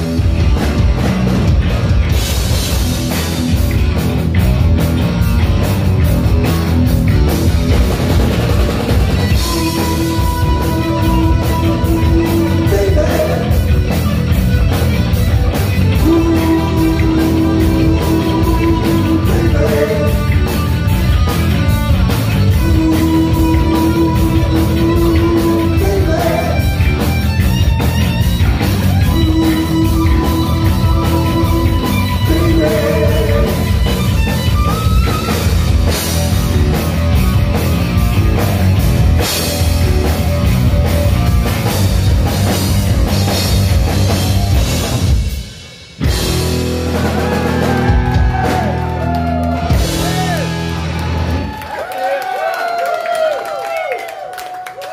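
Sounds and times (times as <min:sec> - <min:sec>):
electric guitar lead: 0:00.0 - 0:51.7
bass guitar: 0:00.0 - 0:52.0
loud drums: 0:00.0 - 0:54.0.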